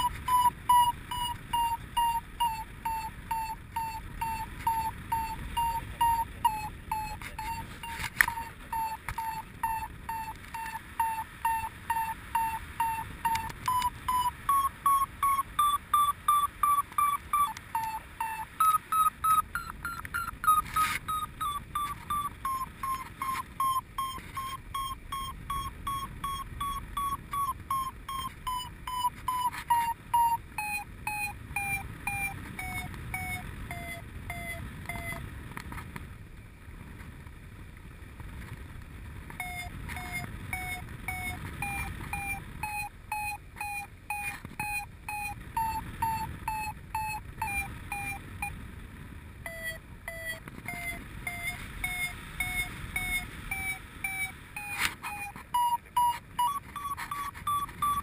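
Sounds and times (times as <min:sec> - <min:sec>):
variometer beeping: 0:00.0 - 0:35.3, 0:39.3 - 0:48.6, 0:49.4 - 0:58.0.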